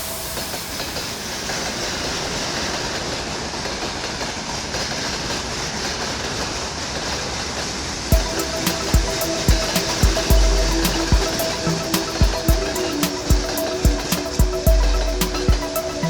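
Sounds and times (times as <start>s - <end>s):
train wheels on rails: 0.0s - 14.6s.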